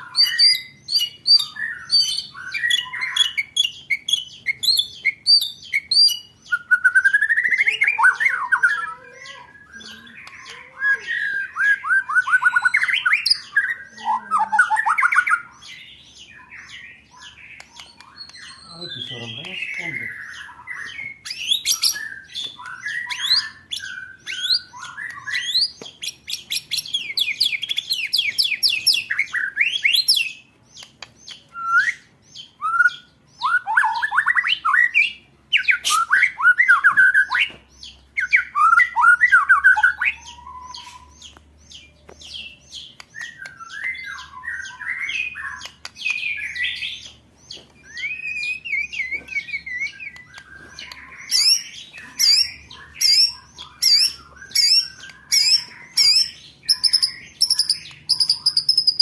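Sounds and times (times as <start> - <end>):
songbird trilling and chattering: 0.0 - 59.0.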